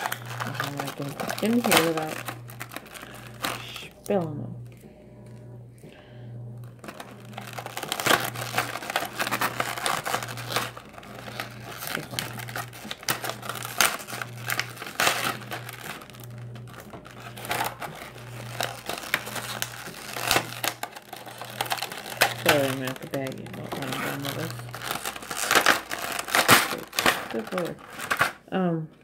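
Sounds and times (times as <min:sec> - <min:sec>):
plastic blister packaging crinkling: 0:00.0 - 0:28.5.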